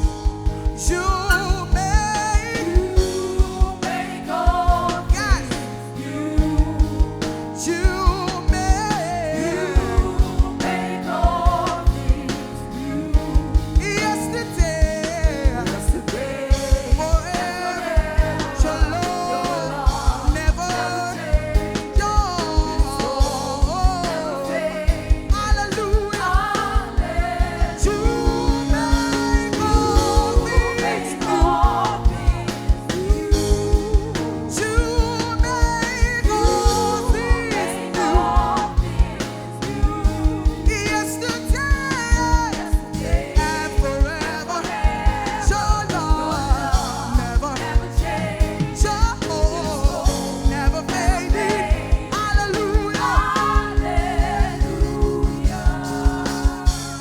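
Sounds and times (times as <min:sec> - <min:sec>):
kick drum beat: 0:00.0 - 0:05.6, 0:09.7 - 0:12.3, 0:13.2 - 0:24.1, 0:24.8 - 0:57.0
band playing: 0:00.0 - 0:57.0
person singing: 0:00.9 - 0:53.8.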